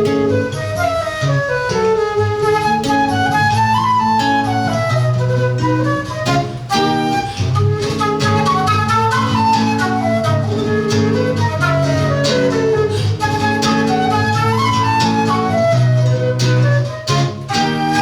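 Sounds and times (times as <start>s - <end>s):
flute melody: 0.0s - 18.0s
plucked guitar accompaniment: 0.0s - 18.0s.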